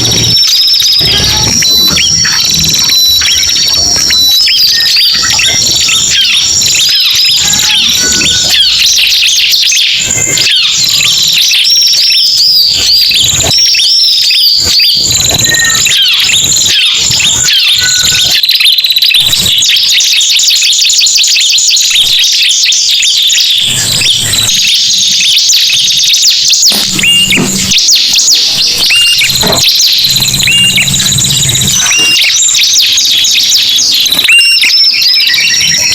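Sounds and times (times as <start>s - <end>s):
birds chirping and trilling: 0.0s - 35.9s.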